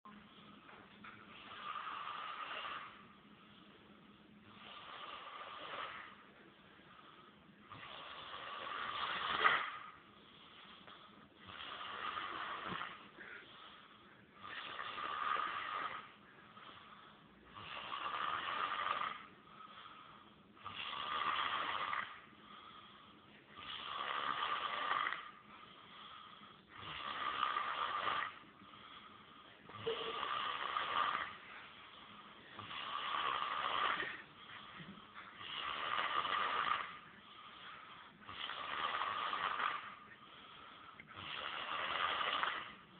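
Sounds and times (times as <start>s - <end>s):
quiet breathing: 0.0s - 42.9s
man snoring: 1.4s - 3.0s, 4.5s - 6.2s, 7.7s - 10.8s, 11.4s - 13.8s, 14.4s - 42.8s.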